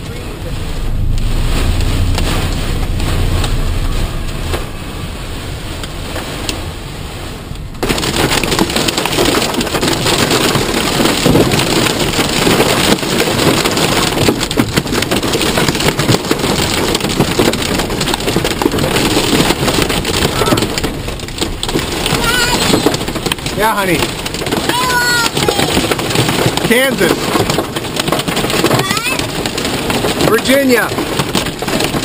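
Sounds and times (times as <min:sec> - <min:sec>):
heavy rain on car roof: 0:00.0 - 0:32.0.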